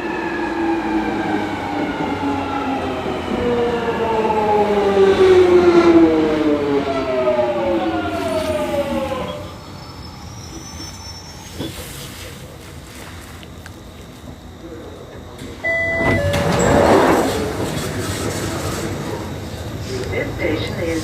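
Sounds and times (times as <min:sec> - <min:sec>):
underground train motors whining: 0:00.0 - 0:21.0.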